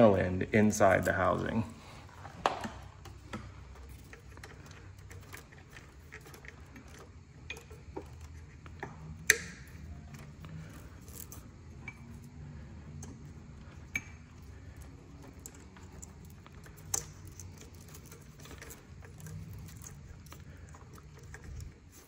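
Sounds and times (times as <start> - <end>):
wiring and connectors rattling: 0.0 - 22.0.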